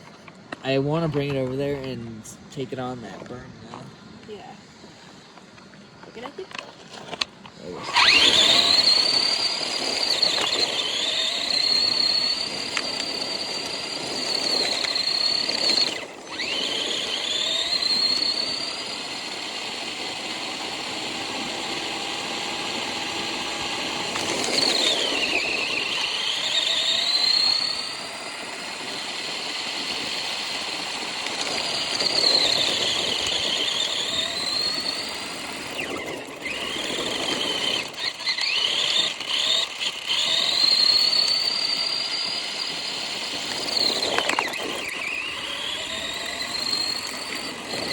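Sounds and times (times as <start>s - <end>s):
remote-control car motor whining: 0.0s - 47.9s.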